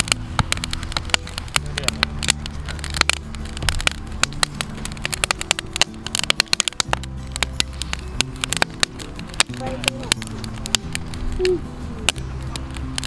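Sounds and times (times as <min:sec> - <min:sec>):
low background music: 0:00.0 - 0:13.0
wood fire crackling and popping: 0:00.0 - 0:13.0.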